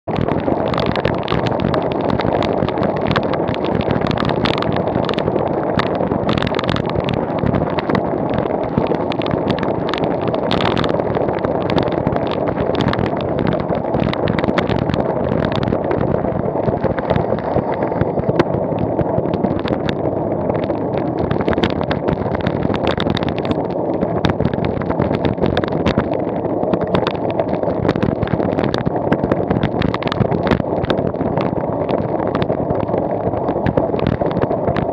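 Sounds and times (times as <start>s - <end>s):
crackling gusts: 0.0s - 34.9s
low rumble: 0.0s - 34.9s
wind noise on microphone: 0.0s - 34.9s.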